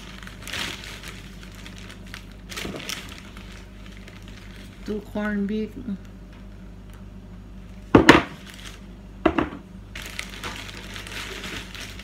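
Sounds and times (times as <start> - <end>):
plastic bag rustling: 0.0 - 7.0, 7.6 - 9.0, 9.8 - 12.0.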